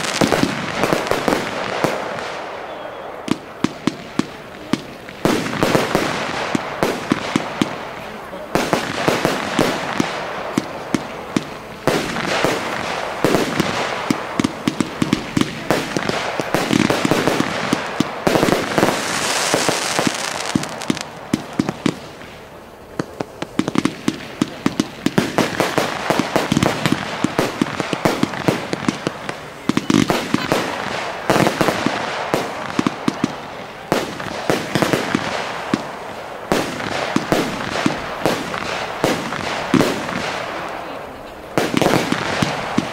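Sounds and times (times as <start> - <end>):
fireworks bangs: 0.0 - 42.9
fireworks crackle: 0.0 - 42.9
fireworks hissing: 0.0 - 42.9.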